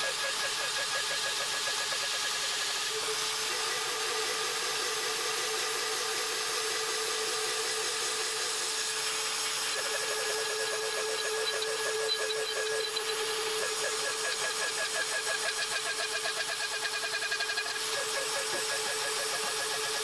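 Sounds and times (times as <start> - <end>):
router cutting aluminium: 0.0 - 20.0.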